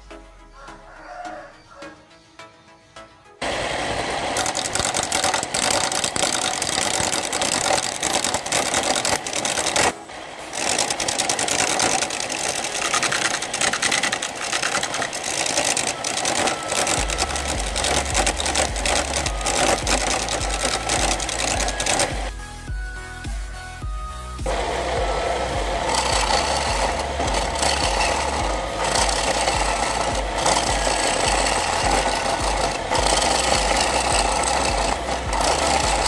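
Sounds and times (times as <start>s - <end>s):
lathe tool chattering scrape on wood: 3.4s - 22.3s, 24.5s - 36.0s
wood lathe running: 3.4s - 22.3s, 24.4s - 36.0s.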